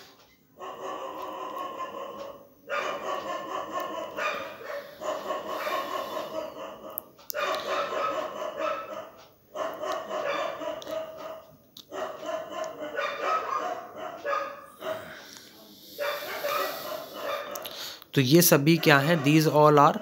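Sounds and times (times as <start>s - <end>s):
dog barking: 0.6s - 15.2s, 15.9s - 19.9s.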